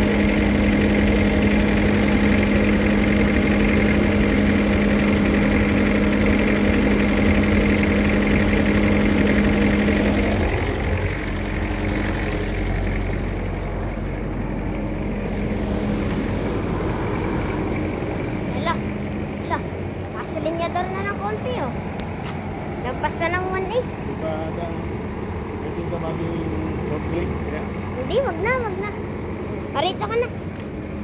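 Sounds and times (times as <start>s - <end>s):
van engine idling: 0.0s - 31.0s.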